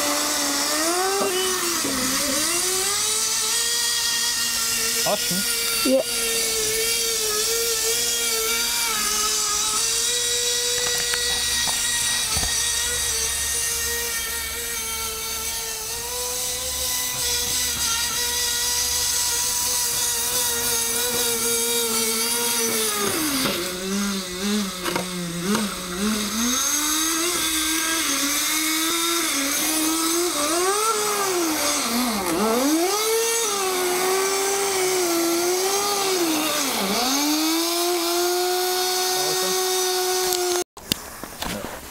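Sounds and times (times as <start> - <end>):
small engine buzzing whine: 0.0 - 41.9.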